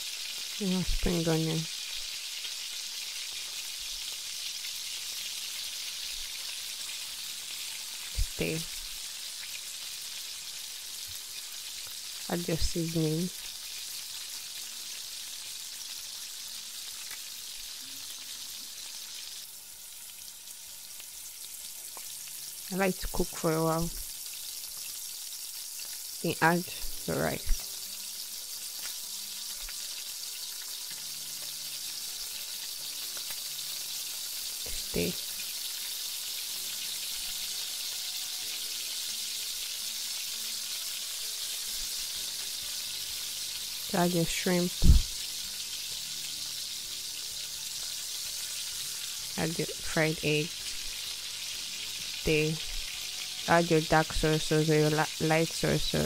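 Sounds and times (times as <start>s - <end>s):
vegetables sizzling in a wok: 0.0s - 56.0s.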